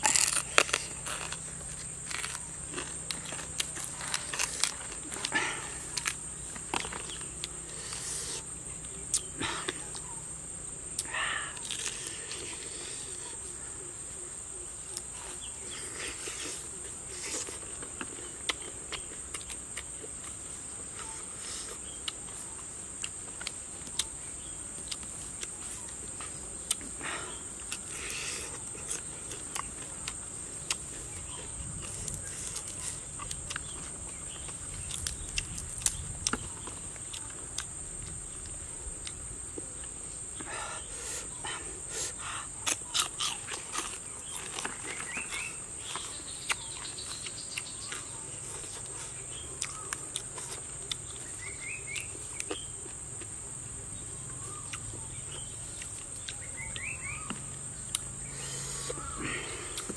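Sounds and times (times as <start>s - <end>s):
person chewing and smacking: 0.0s - 10.1s, 16.0s - 21.1s, 21.8s - 27.0s, 27.6s - 39.9s, 42.0s - 53.4s, 54.6s - 59.9s.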